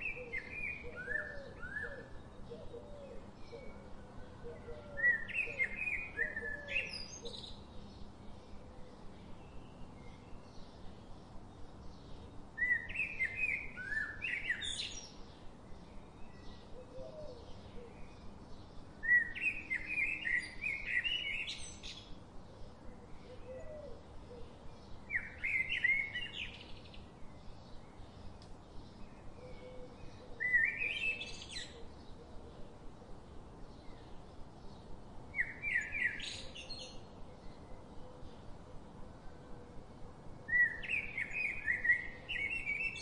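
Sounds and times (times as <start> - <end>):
songbird chirping: 0.0 - 43.0.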